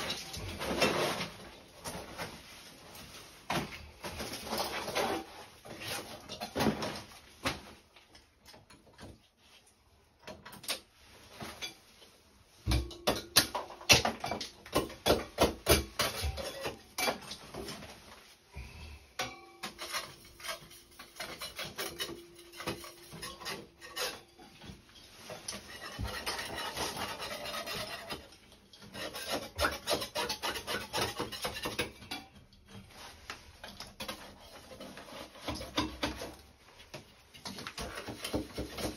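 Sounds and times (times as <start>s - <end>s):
hand tools scraping and knocking: 0.0s - 2.5s, 3.5s - 7.6s, 12.6s - 18.2s, 19.2s - 38.9s.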